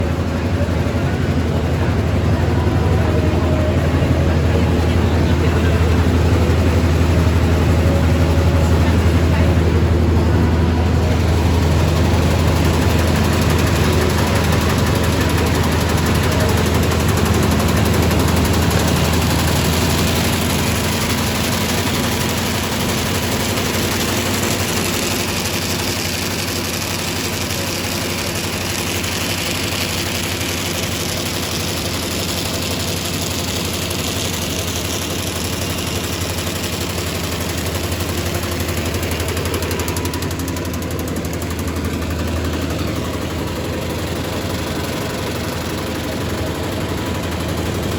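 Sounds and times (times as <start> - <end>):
low machine hum: 0.0 - 47.9
machine clattering: 3.8 - 47.9.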